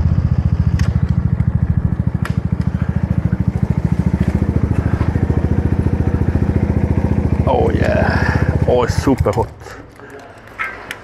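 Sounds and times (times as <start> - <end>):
motorbike engine running: 0.0 - 9.5.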